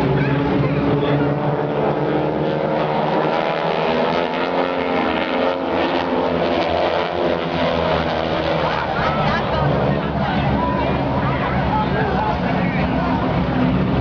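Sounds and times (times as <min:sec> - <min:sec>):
airplane engines droning: 0:00.0 - 0:14.0.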